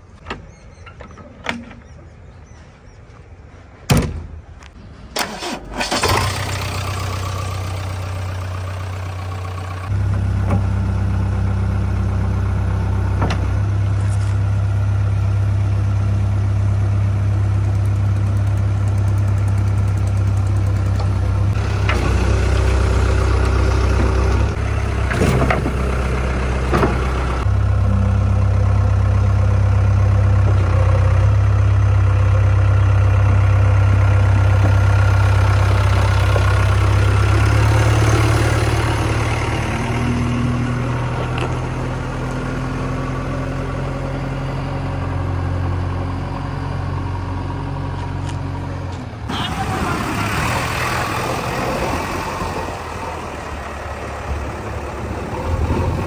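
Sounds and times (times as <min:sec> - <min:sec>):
diesel engine running: 0:02.5 - 0:56.0.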